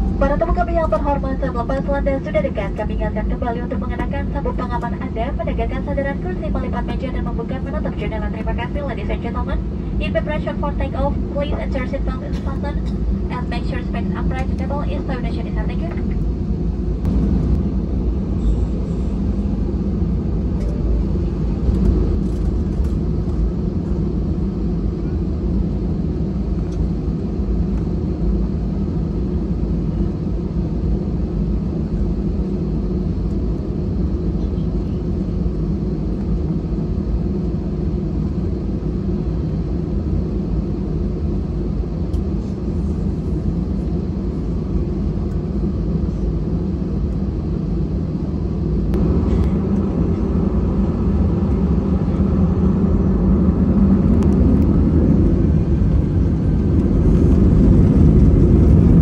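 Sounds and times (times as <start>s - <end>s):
jet engine rumble in cabin: 0.0s - 59.0s.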